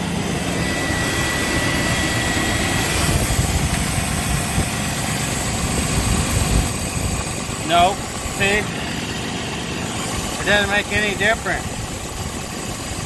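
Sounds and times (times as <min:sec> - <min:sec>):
car engine idling: 0:00.0 - 0:13.0
faint high whine: 0:00.0 - 0:13.0.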